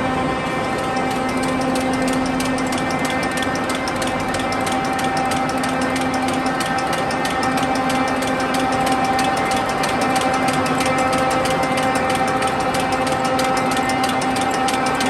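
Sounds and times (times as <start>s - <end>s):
printing machine running: 0.0s - 15.0s
fast clatter of clicks: 0.5s - 15.0s.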